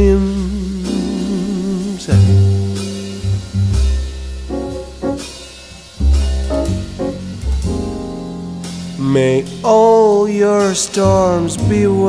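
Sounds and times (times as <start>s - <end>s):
deep bass notes: 0.0s - 12.0s
piano chords: 0.0s - 12.0s
soft drums and cymbals: 0.0s - 12.0s.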